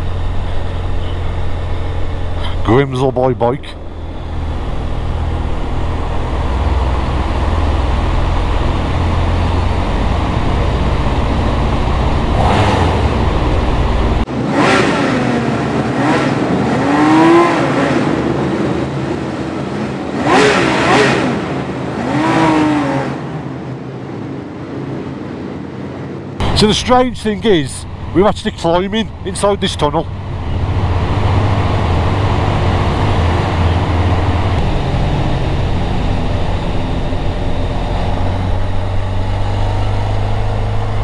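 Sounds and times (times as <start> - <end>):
engine echoing in tunnel: 0.0 - 41.0
motorcycle engines rumbling: 0.0 - 41.0
wind and road noise: 0.0 - 41.0.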